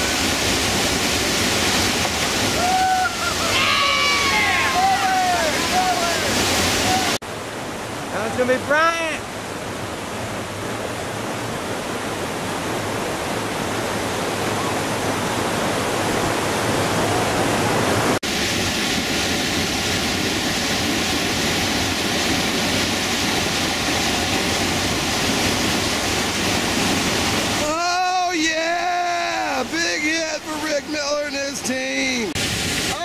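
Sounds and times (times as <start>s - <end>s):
whitewater rushing: 0.0s - 33.0s.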